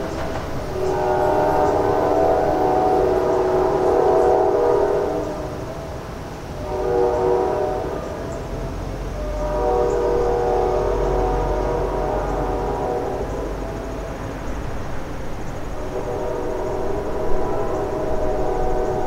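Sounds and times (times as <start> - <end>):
low rumble of train: 0.0 - 19.0
locomotive air horn blasts: 0.8 - 6.0, 6.6 - 14.2, 15.8 - 19.0.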